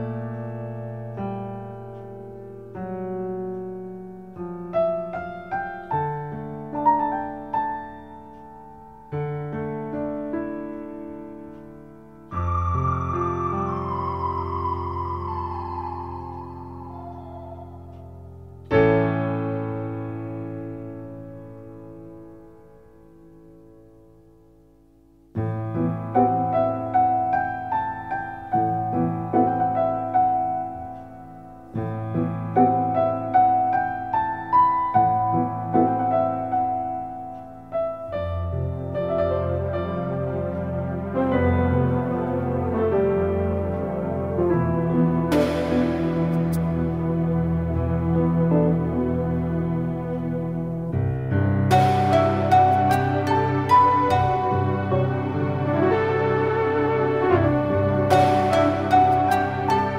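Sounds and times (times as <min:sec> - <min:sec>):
slow piano music: 0:00.0 - 0:59.9.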